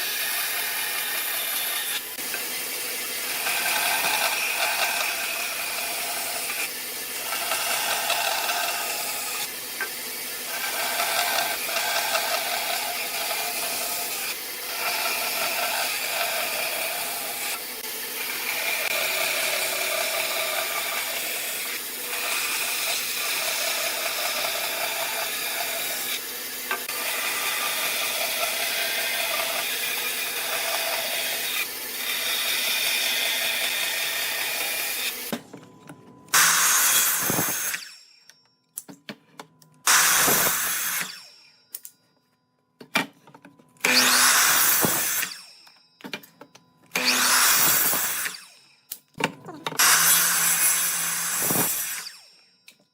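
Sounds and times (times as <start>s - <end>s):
power tool working wood: 0.0s - 35.4s, 36.3s - 38.2s, 39.8s - 41.5s, 43.8s - 45.8s, 46.9s - 52.4s.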